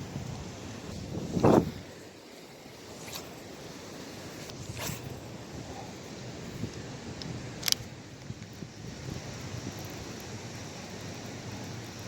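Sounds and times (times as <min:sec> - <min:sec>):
wind buffeting microphone: 0:00.0 - 0:02.0, 0:04.1 - 0:12.0.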